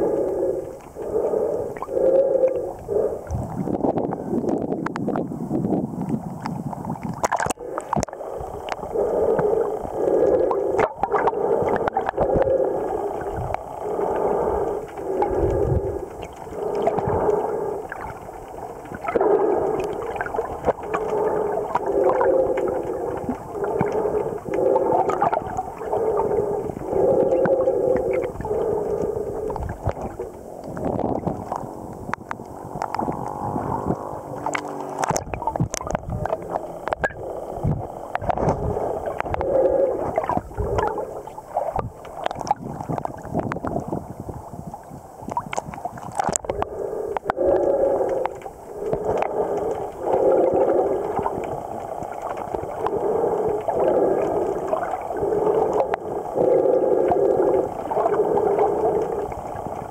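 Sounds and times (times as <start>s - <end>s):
short tonal pulses underwater: 0.0s - 59.9s
water gurgling: 0.0s - 59.9s.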